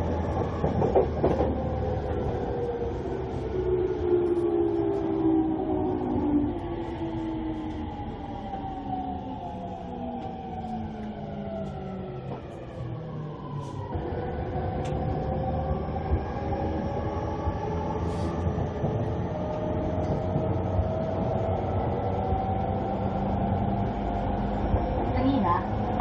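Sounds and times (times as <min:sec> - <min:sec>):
wheel and rail rumble: 0:00.0 - 0:26.0.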